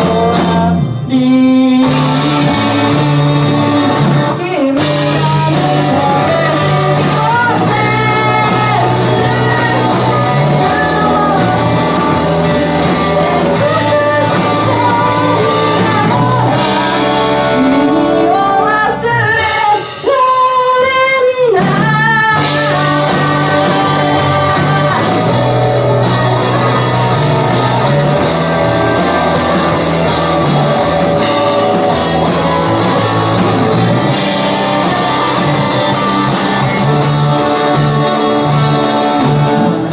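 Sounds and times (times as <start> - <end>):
drum kit: 0.0 - 39.9
electric guitars: 0.0 - 39.9
person singing lead vocal: 0.0 - 39.9.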